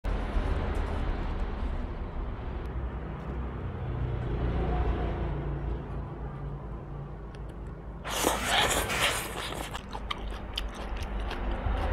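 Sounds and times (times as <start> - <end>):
low rumbling background noise: 0.0 - 11.9.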